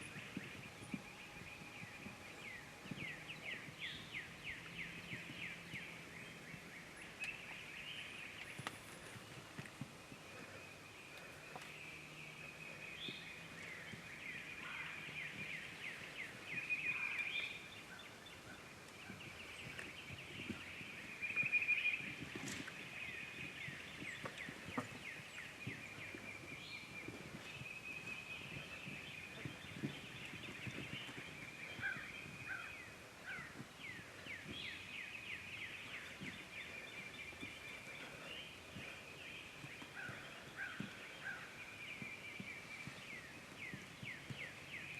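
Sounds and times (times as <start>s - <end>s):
bird calls: 0.0s - 44.9s.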